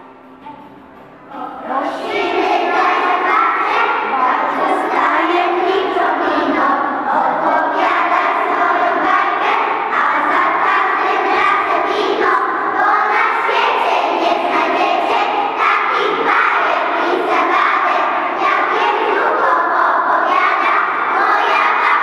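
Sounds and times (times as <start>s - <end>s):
children singing in unison: 1.3s - 22.0s.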